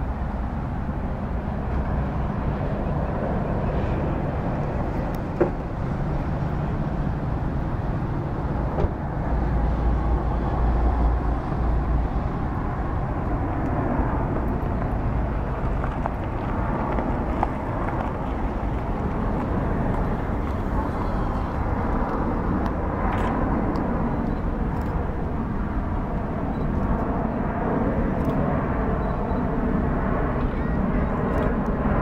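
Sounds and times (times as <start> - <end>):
jet aircraft rumble overhead: 0.0 - 32.0.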